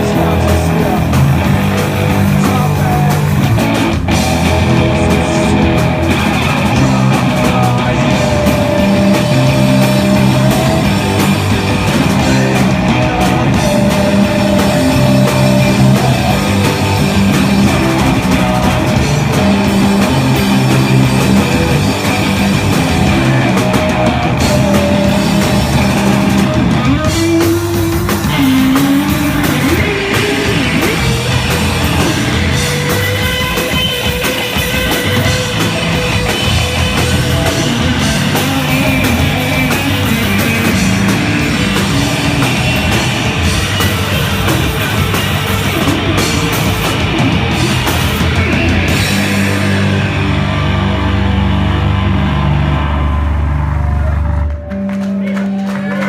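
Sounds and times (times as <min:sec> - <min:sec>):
bending guitar notes: 0:00.0 - 0:55.8
rock band playing: 0:00.0 - 0:56.0.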